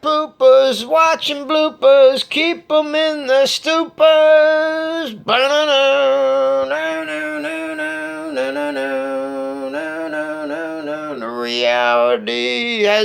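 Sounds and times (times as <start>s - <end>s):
man singing wordless melody: 0.0s - 13.0s.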